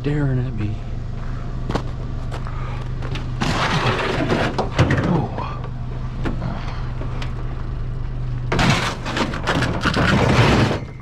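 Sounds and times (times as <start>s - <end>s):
vehicle idling hum: 0.0s - 11.0s.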